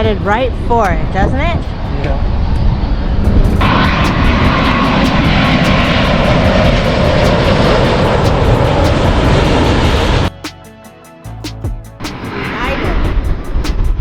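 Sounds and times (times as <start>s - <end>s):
airliner passing overhead: 0.0s - 10.3s, 12.0s - 14.0s.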